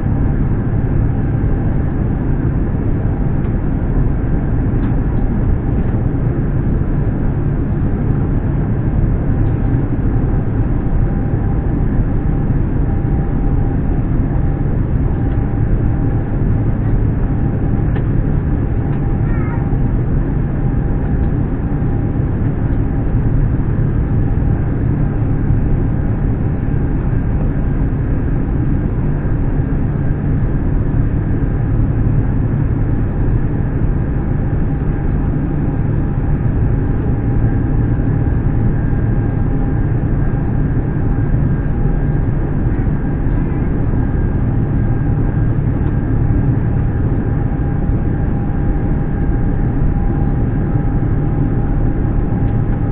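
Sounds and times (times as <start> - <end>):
airliner cabin rumble: 0.0 - 52.9
faint steady whine: 0.0 - 52.9.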